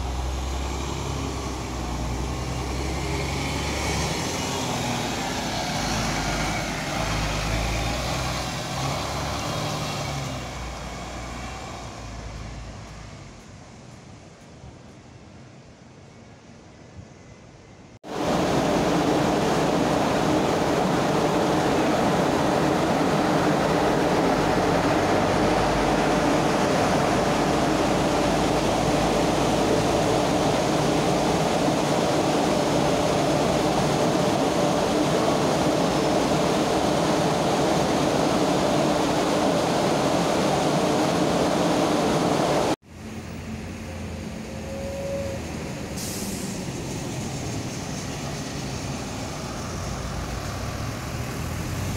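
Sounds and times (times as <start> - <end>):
loud engine drone: 0.0 - 13.0, 18.0 - 51.9
street traffic: 0.0 - 51.9.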